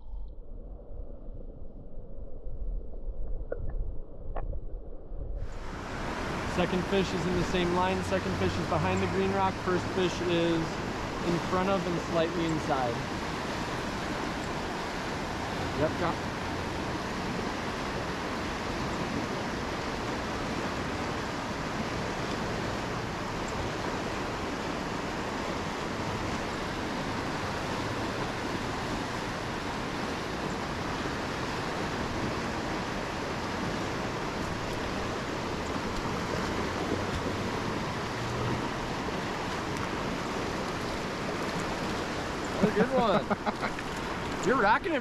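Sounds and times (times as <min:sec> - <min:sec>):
river rushing: 0:05.4 - 0:45.0.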